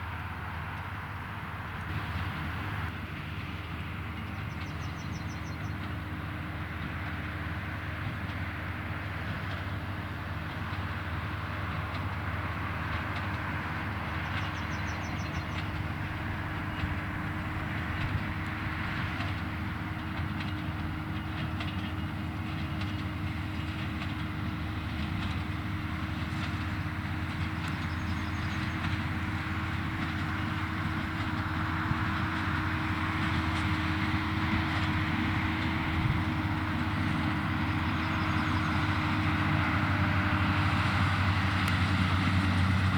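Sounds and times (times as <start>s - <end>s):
tractor and baler drone: 0.0s - 42.9s.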